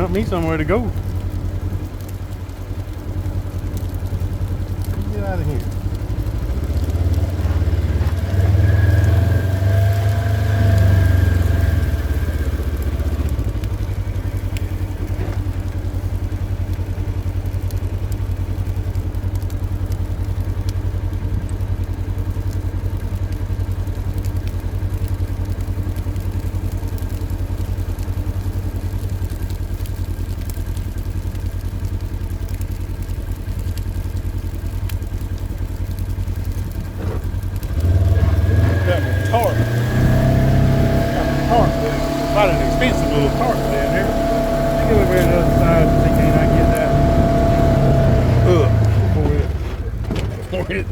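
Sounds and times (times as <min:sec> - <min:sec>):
vehicle engine idling: 0:00.0 - 0:50.9.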